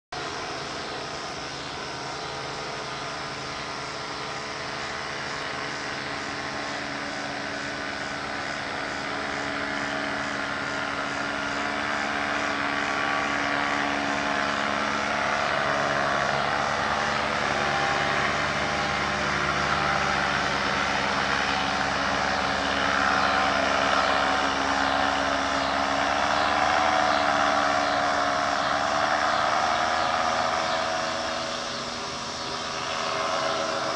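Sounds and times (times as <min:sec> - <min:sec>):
paramotor engine droning: 0:00.1 - 0:33.9.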